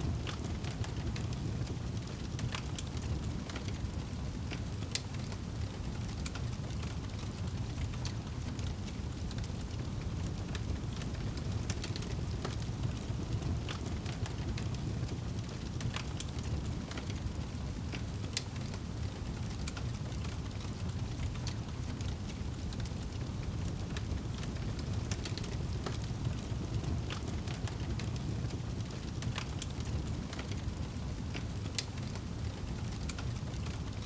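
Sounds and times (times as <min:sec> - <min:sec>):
fire pops and snaps: 0:00.0 - 0:34.0
low rumble of flames: 0:00.0 - 0:34.0.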